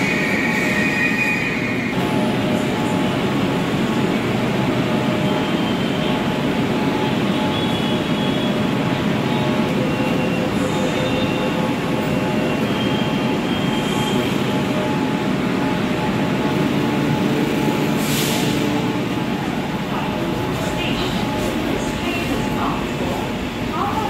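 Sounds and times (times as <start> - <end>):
metro train running: 0.0 - 24.0.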